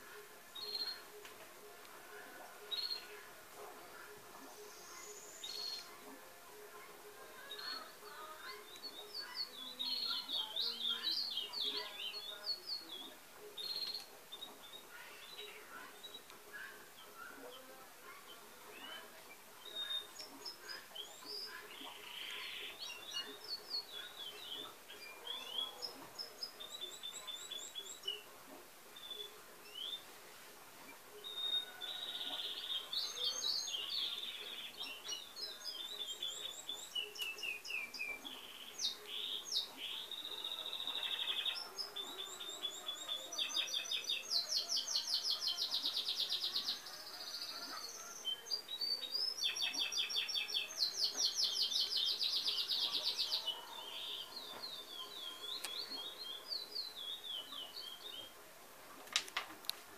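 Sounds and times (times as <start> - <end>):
songbirds chirping and calling: 0.0 - 59.9.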